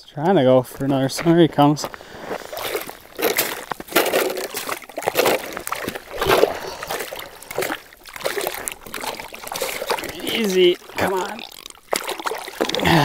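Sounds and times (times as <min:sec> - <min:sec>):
fish splashing in water: 0:02.4 - 0:13.0.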